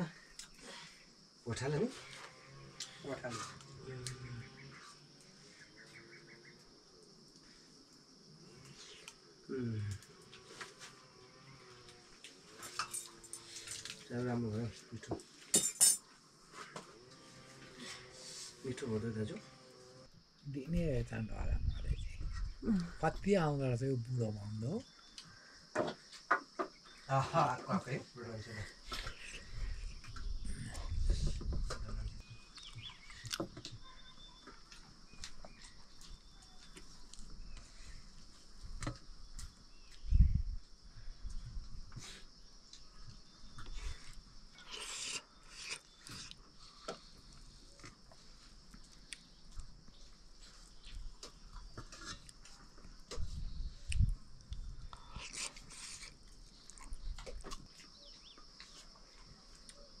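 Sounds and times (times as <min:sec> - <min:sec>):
high-pitched insect chorus: 0:00.0 - 1:00.0.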